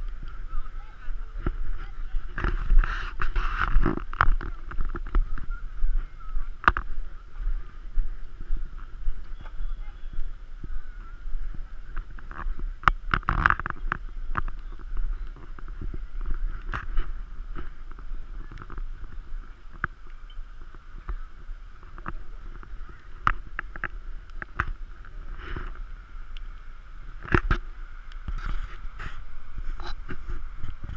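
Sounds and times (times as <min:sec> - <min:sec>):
wind rumble on microphone: 0:00.0 - 0:30.9.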